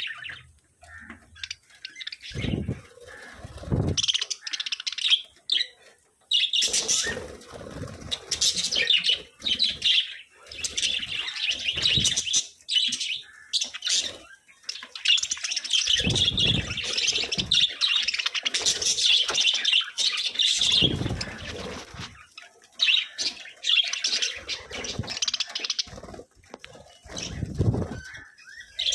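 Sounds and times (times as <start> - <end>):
budgerigars chattering: 0.0 - 26.2.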